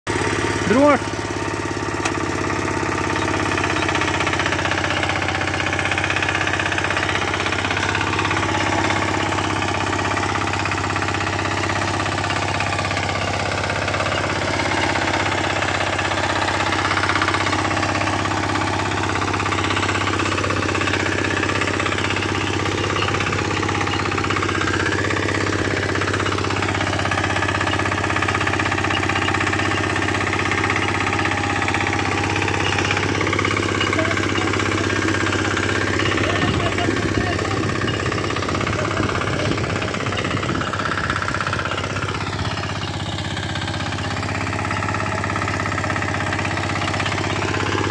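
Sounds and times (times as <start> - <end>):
tiller engine running: 0.1 - 47.9.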